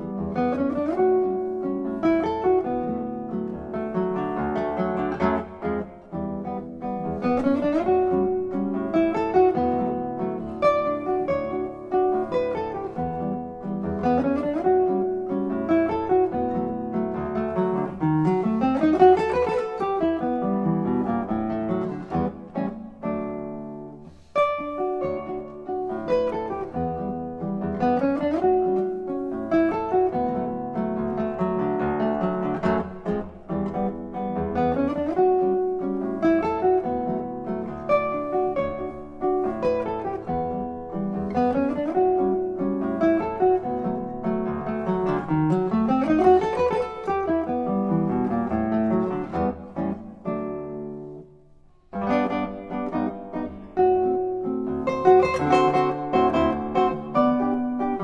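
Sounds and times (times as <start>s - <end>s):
classical guitar playing: 0.0s - 58.0s.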